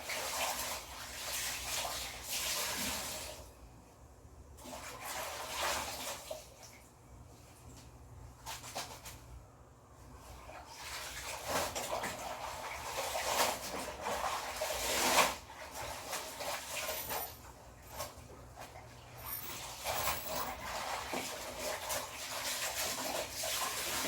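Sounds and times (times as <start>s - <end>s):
water sloshing and fabric rubbing: 0.0s - 3.6s, 4.6s - 24.0s.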